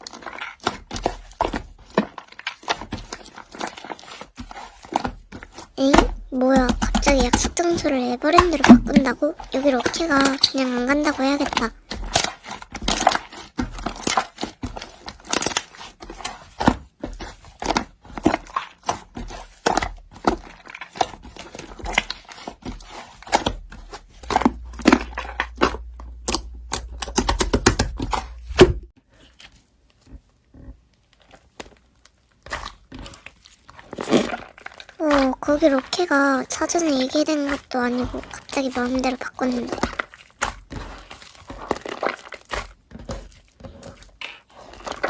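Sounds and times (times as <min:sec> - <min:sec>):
slime squishing with sticky clicks: 0:00.0 - 0:45.0.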